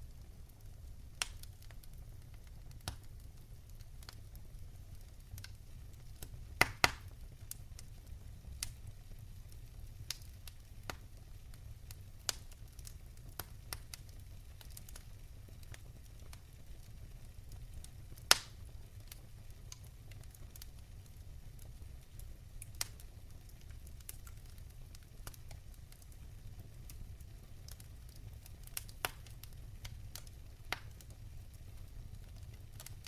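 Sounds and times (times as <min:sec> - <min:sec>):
fire popping: 0:00.0 - 0:33.0
fireplace fire crackling: 0:00.0 - 0:33.0.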